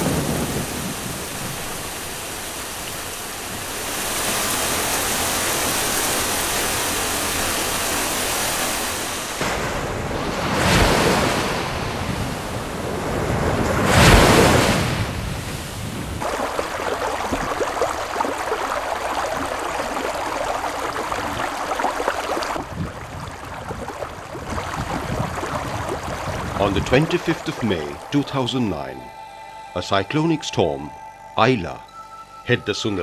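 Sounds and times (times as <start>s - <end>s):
river water lapping embankment: 0.0s - 30.4s.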